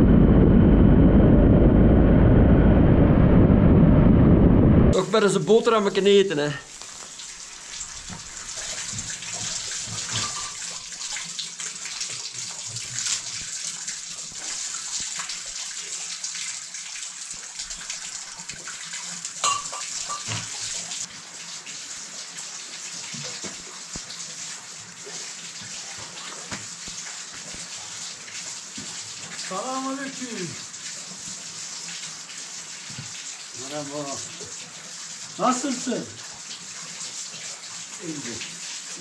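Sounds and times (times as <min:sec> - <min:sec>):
water running and splashing: 0:05.0 - 0:39.0.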